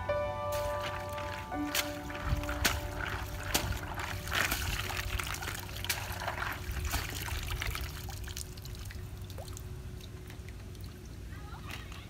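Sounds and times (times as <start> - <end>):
water draining and trickling: 0.5 - 11.1.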